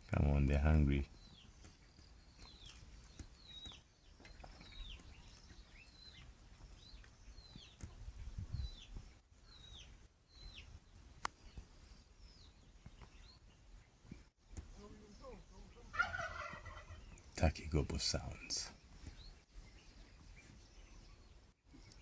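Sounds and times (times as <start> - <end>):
small bird chirping: 0.9 - 22.0.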